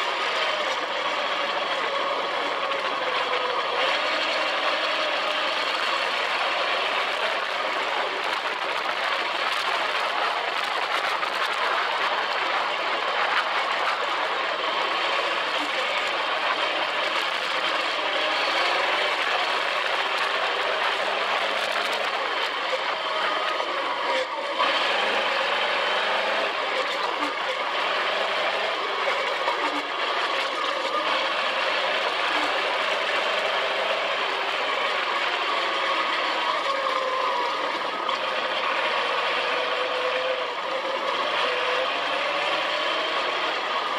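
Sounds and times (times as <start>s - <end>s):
dune buggy engine: 0.0s - 43.9s.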